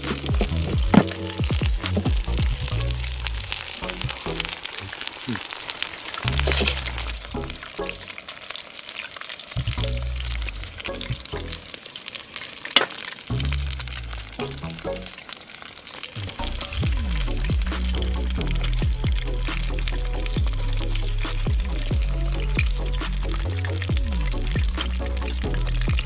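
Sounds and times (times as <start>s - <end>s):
background music: 0.0s - 4.9s, 6.2s - 8.3s, 9.6s - 11.8s, 13.3s - 15.3s, 16.2s - 26.0s
deep-frying in hot oil: 0.0s - 26.0s.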